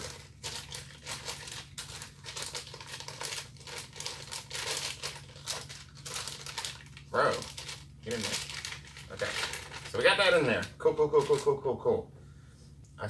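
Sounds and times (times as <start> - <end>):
packaging crinkling and rustling: 0.0 - 11.6.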